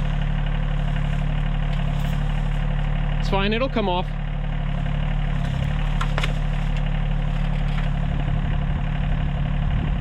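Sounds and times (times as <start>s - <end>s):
tractor diesel engine idling: 0.0s - 10.0s.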